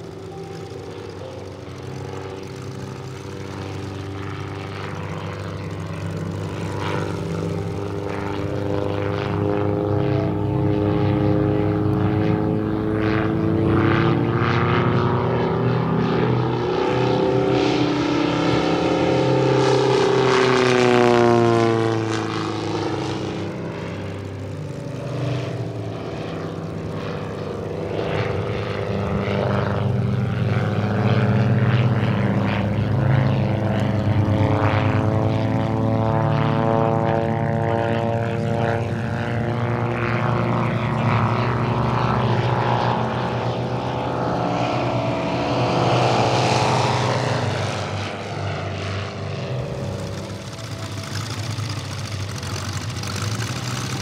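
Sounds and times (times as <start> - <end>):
model plane radial engine: 0.0 - 54.0.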